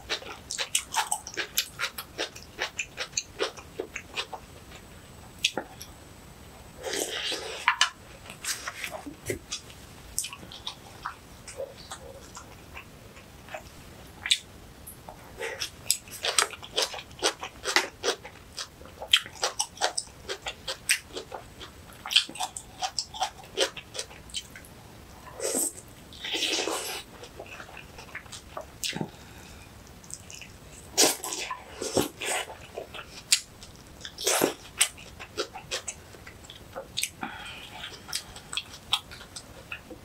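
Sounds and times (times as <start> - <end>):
person chewing crunchy food: 0.0 - 5.9, 6.8 - 40.0.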